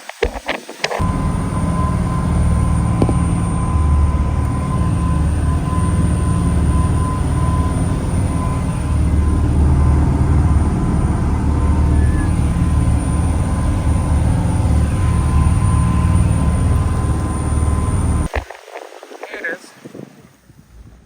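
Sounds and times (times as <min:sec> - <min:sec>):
boat engine rumbling: 0:00.0 - 0:21.0
faint steady whine: 0:00.0 - 0:21.0.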